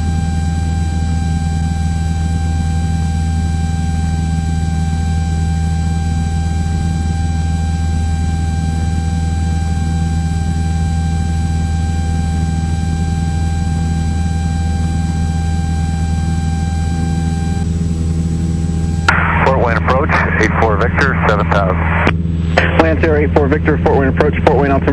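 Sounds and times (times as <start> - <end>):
light aircraft engine droning: 0.0 - 24.9
thin steady whine: 0.0 - 24.9.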